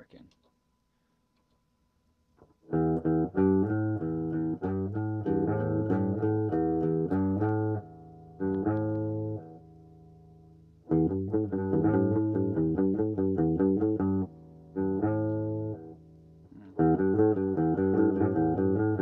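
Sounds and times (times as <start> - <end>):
electric guitar strumming with echo: 2.7 - 19.0.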